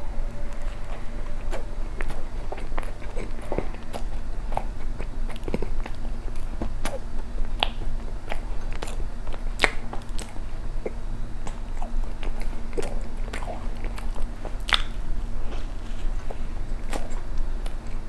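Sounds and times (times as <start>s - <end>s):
bite into bread: 0.5s - 18.0s
wet chewing mouth clicks: 1.5s - 18.0s.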